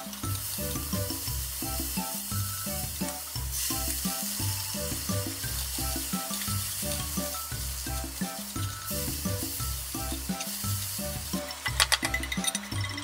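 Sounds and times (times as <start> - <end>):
background music with bass line: 0.0 - 13.0
vegetables sizzling in a frying pan: 0.0 - 13.0.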